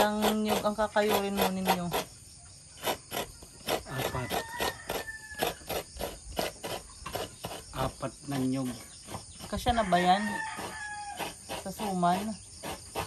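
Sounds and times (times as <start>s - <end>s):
coconut grating scrapes: 0.0s - 13.0s.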